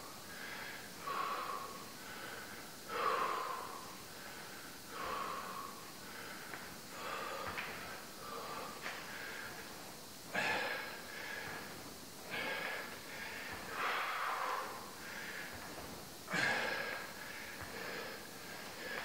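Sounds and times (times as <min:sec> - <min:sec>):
man breathing heavily: 0:00.0 - 0:19.0.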